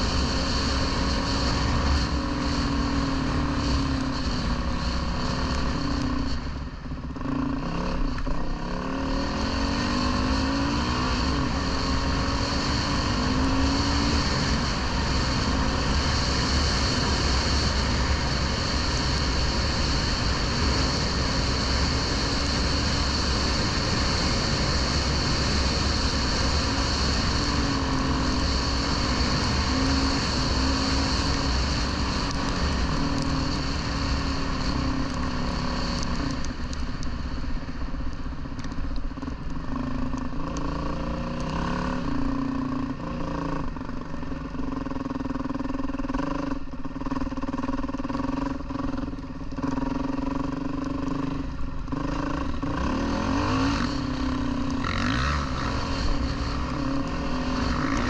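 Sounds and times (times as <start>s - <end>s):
dirt bike engine revving: 0.0s - 36.5s, 44.7s - 58.0s.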